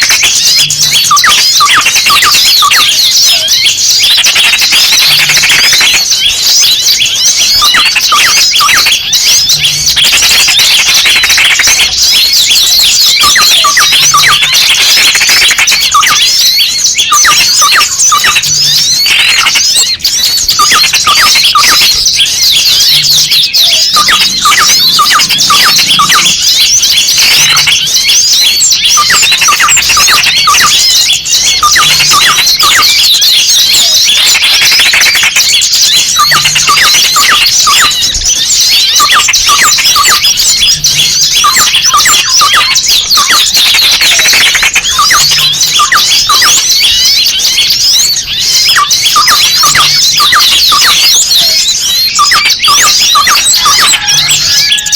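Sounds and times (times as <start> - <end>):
bird alarm cries: 0.0 - 54.9
small birds chirping and squeaking: 0.0 - 54.9.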